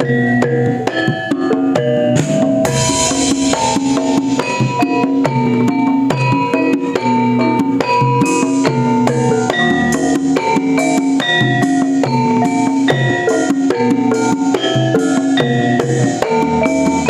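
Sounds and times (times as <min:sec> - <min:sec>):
drums: 0:00.0 - 0:17.0
gamelan ensemble playing: 0:00.0 - 0:17.0.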